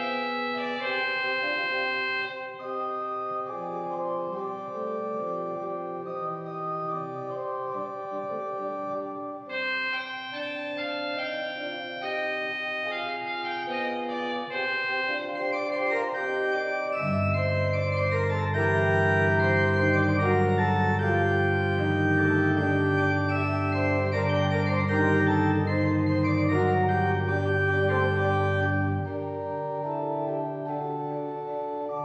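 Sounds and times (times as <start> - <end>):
deep organ pedal bass notes: 0.0 - 32.0
pipe organ chords: 0.0 - 32.0.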